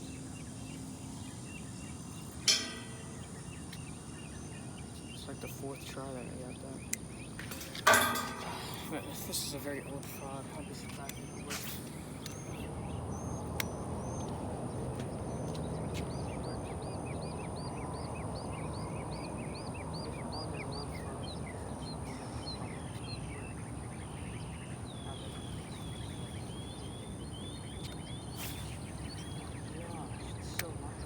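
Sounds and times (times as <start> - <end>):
songbird calling and twittering: 0.0 - 31.0
steady low outdoor noise: 0.0 - 31.0.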